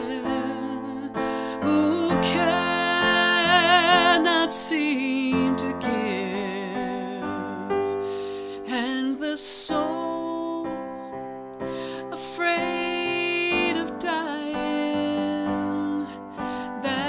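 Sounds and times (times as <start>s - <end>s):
piano accompaniment: 0.0s - 17.0s
woman singing a slow ballad: 0.0s - 17.0s.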